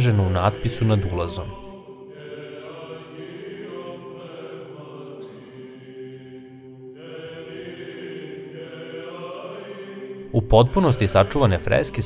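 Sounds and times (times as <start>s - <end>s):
choir singing slow chant: 0.0s - 12.0s.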